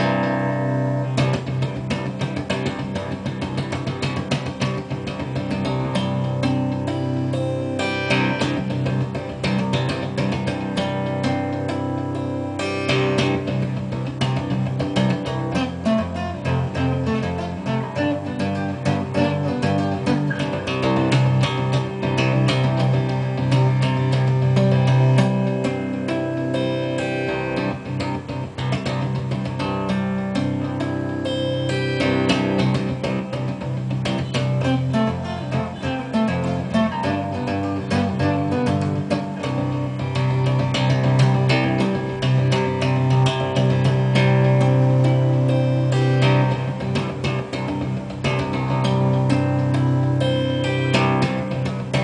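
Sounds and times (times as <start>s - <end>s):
low bass notes: 0.0s - 52.0s
plucked guitar notes: 0.0s - 52.0s.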